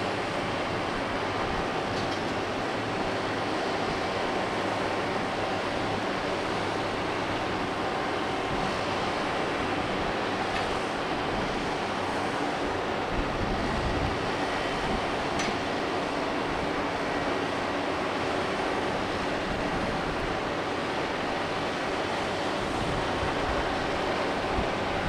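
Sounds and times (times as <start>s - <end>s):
ship hum and rush: 0.0s - 25.0s
wind and water: 0.0s - 25.0s.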